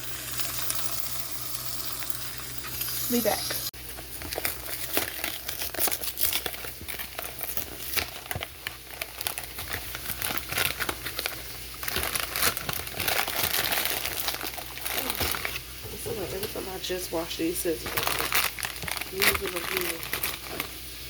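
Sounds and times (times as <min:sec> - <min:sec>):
bacon sizzling in a pan: 0:00.0 - 0:21.0.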